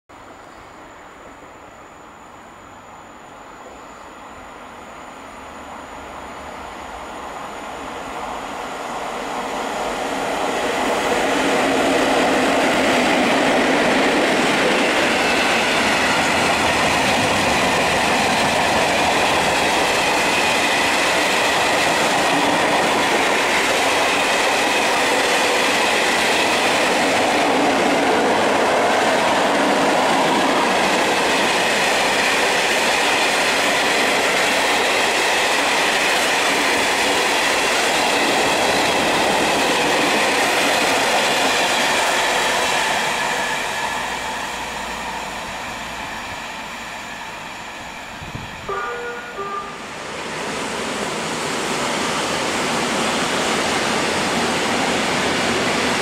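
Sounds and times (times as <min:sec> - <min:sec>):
freight train passing: 0:00.1 - 0:56.0
train wheels rumbling on rails: 0:06.4 - 0:56.0.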